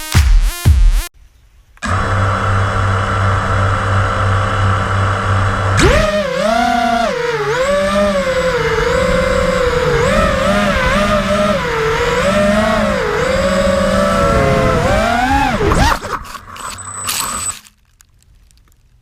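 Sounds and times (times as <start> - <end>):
quadcopter motors whining: 1.8 - 17.8.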